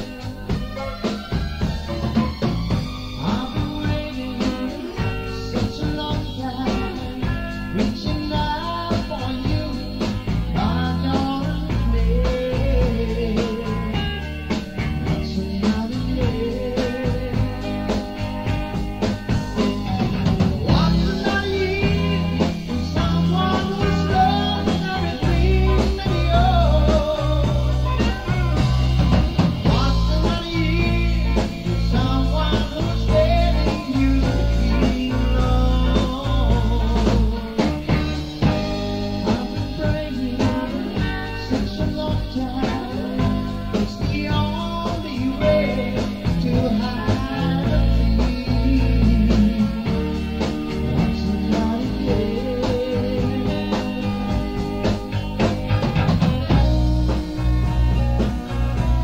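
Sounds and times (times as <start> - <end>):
rock band backing: 0.0 - 59.0
lead vocal singing: 2.2 - 59.0.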